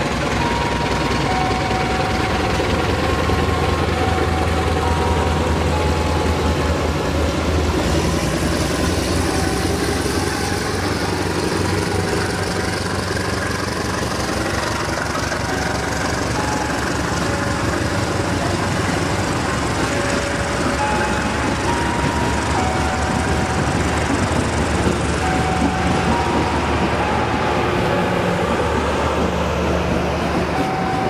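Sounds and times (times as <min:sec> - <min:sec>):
train coaches rumbling past: 0:00.0 - 0:31.0.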